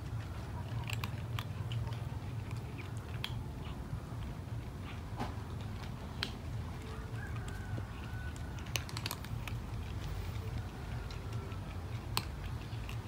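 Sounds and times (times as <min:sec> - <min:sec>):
cat crunching dry kibble: 0:00.0 - 0:13.0
low background rumble: 0:00.0 - 0:13.0.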